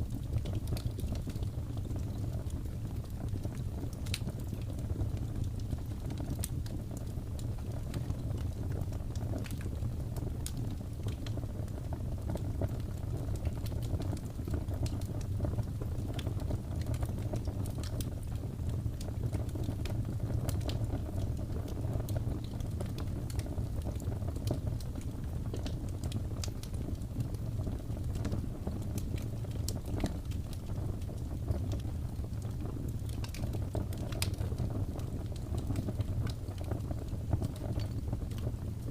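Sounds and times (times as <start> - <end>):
fire snaps and pops: 0.0 - 38.9
low fire rumble: 0.0 - 38.9
wood fire crackling: 0.0 - 38.9.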